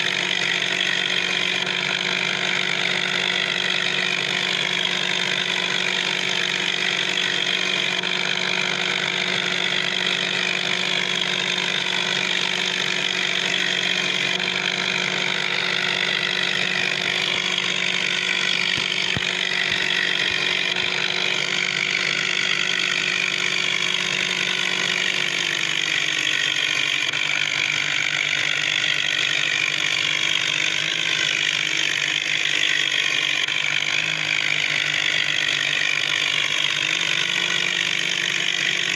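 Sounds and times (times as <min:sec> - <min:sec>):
vehicle engine running steadily: 0:00.0 - 0:38.9.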